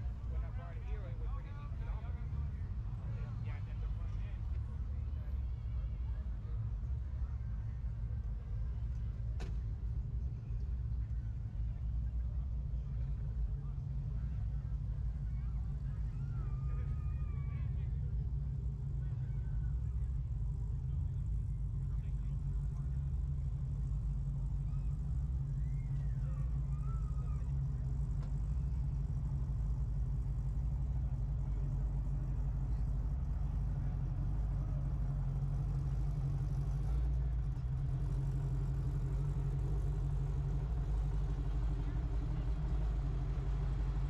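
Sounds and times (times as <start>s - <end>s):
faint voices: 0.0s - 44.0s
vehicle engine idling: 0.0s - 44.0s.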